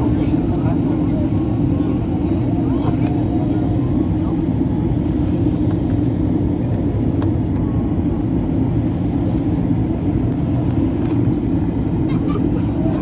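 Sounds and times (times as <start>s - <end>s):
jet engine rumble inside cabin: 0.0s - 13.0s.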